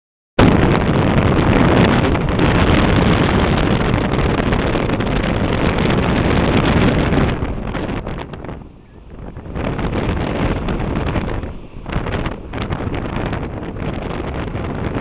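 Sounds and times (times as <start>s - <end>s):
wind buffeting microphone: 0.4s - 15.0s.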